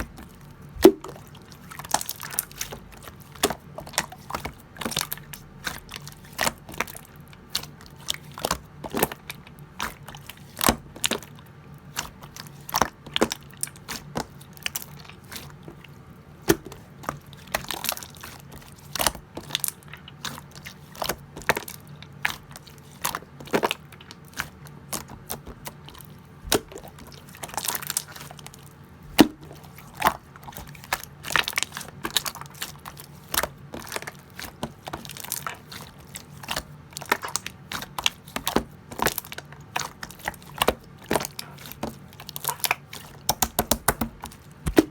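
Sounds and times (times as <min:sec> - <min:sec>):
slime squished by hand: 0:00.0 - 0:44.9.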